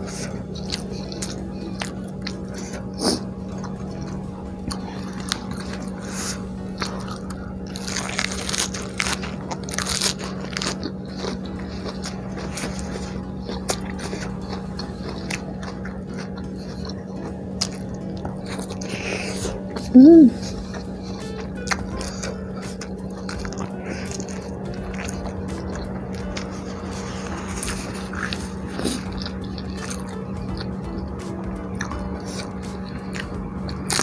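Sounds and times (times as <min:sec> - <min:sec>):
crunchy chewing of food: 0:00.0 - 0:34.0
low hum: 0:00.0 - 0:34.0.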